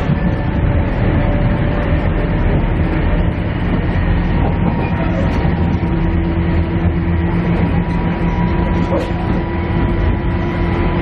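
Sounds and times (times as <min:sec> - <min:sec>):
diesel engine drone: 0:00.0 - 0:11.0
wheels rumbling on rail: 0:00.0 - 0:11.0.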